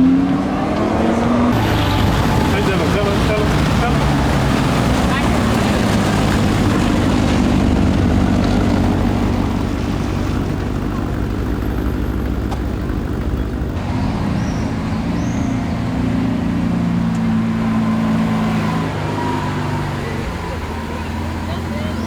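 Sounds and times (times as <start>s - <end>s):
car engine running loud: 0.0s - 22.0s.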